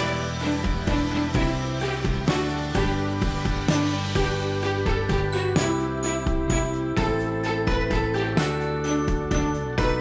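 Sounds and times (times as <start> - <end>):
music with sustained bass notes: 0.0 - 10.0.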